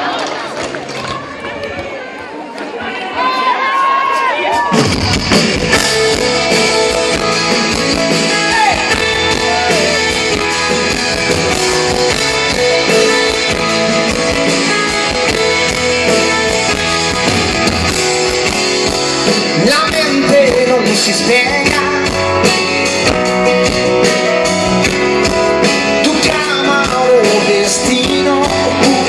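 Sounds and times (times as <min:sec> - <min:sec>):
drum kit beat: 0:04.4 - 0:29.0
electric guitar: 0:04.7 - 0:29.0
keyboards: 0:04.7 - 0:29.0.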